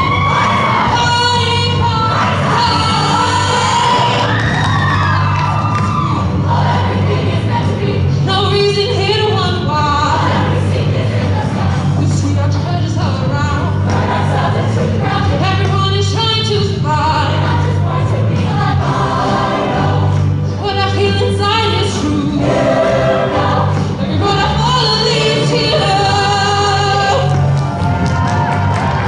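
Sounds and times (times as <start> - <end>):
women's choir singing: 0.0 - 4.4, 6.0 - 27.4
steady bass line: 0.0 - 29.0.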